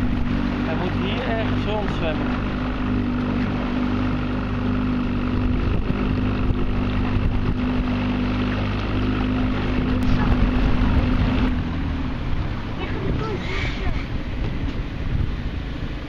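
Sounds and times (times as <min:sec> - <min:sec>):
motorboat engine droning: 0:00.0 - 0:16.0
wind rumbling on microphone: 0:00.0 - 0:16.0.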